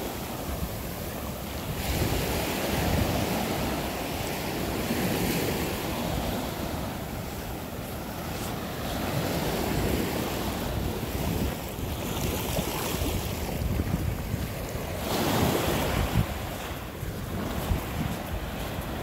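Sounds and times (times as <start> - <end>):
ocean waves on beach: 0.0 - 19.0
wind buffeting microphone: 0.0 - 19.0.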